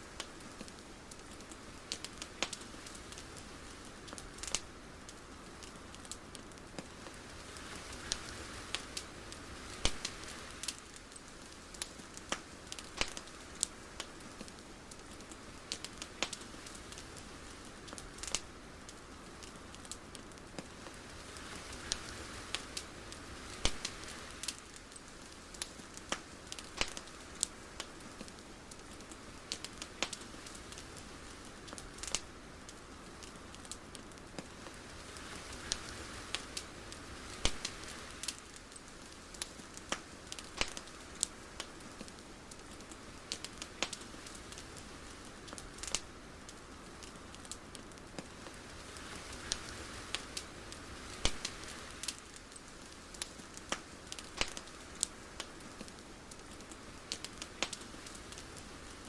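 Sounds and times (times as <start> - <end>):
crackling clicks and pops: 0.0 - 59.0
soft hiss: 0.0 - 59.0.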